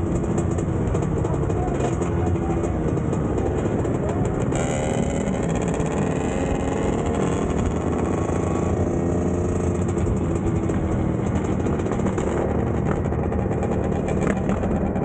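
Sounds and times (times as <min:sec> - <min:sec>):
two-stroke dirt bike engines: 0:00.0 - 0:15.0.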